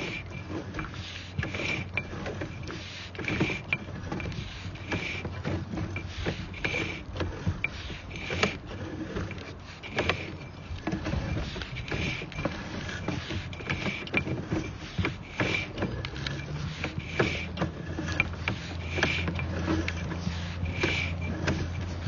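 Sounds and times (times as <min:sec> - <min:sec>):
cable clicking and rattling: 0:00.0 - 0:22.0
steady low hum: 0:00.0 - 0:22.0.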